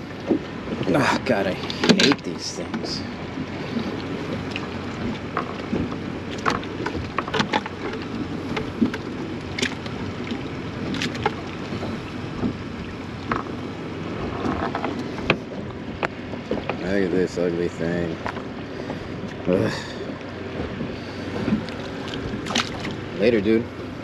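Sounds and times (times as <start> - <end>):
water lapping against boat hull: 0.0 - 24.0
wind: 0.0 - 24.0.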